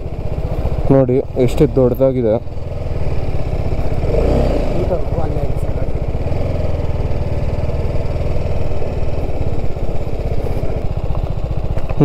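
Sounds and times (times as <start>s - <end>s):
motorcycle engine low throb: 0.0s - 12.0s.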